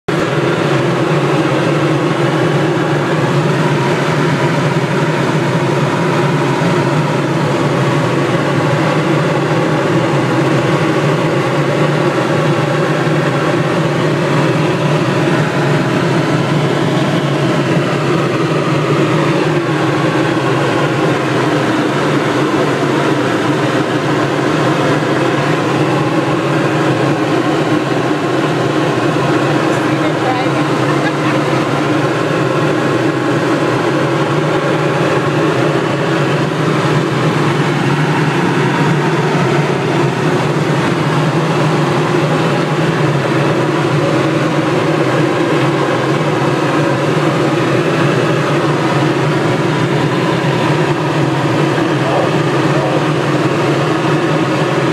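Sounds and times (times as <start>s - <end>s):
helicopter engine and rotor drone: 0.1s - 54.9s.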